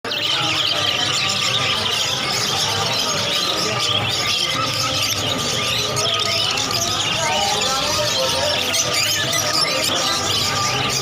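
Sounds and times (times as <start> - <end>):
caged birds chirping and squawking: 0.0 - 11.0
low crowd murmur: 0.0 - 11.0.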